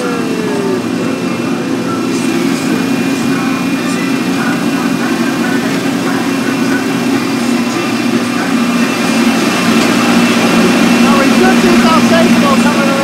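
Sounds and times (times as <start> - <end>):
train engine drone: 0.0 - 13.0.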